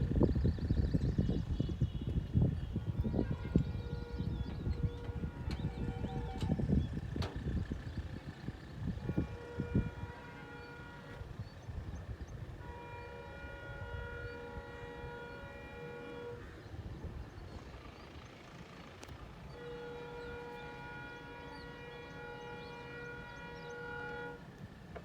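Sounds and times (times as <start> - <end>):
train rumbling: 0.0 - 25.0
locomotive horn blasts: 1.4 - 11.7, 12.5 - 16.9, 19.0 - 24.8.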